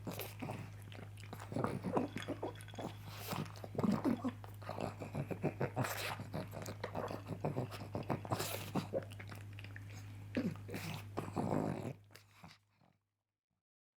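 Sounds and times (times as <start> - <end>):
steady low hum: 0.0 - 12.0
dog chewing wetly: 0.0 - 12.6.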